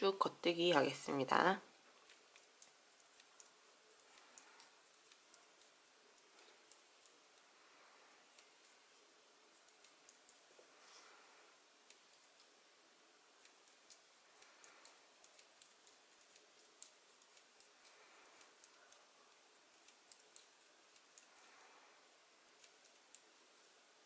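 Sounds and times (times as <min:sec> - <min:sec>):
knitting needles clicking: 0:01.8 - 0:12.7, 0:13.3 - 0:23.8.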